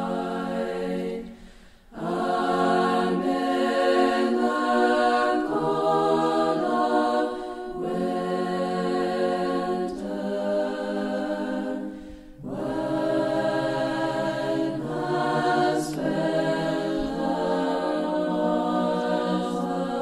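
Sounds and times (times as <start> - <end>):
choir singing chant: 0.0 - 20.0.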